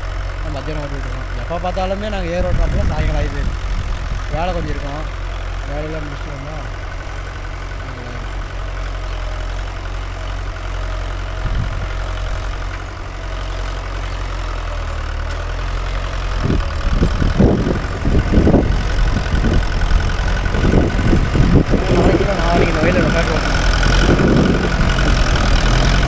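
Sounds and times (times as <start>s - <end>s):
tractor diesel engine running: 0.0s - 26.0s
low thumps and rumbling: 0.7s - 9.0s, 10.4s - 13.1s, 15.5s - 26.0s.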